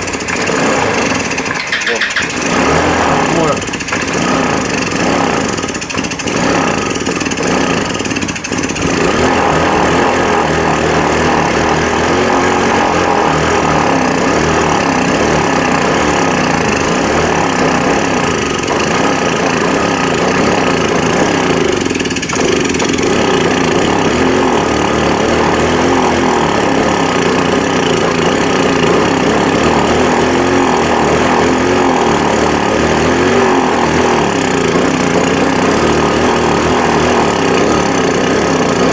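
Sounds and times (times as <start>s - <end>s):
scooter engine running unevenly: 0.0s - 38.9s.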